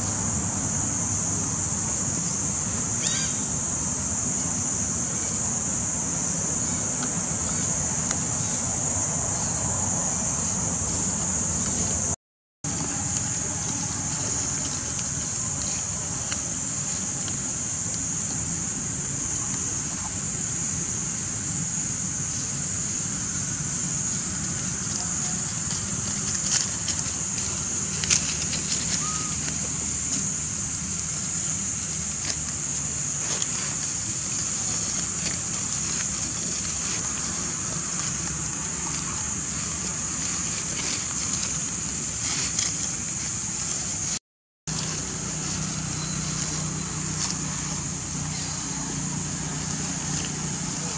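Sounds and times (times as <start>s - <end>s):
high-pitched hiss: 0.0s - 50.9s
high-pitched insect drone: 0.0s - 50.9s.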